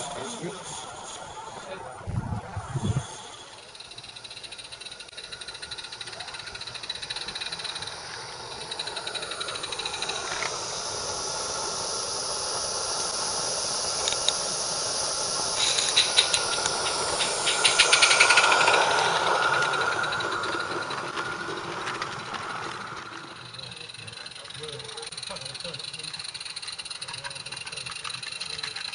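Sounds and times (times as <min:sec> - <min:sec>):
model steam locomotive running: 0:00.0 - 0:28.9.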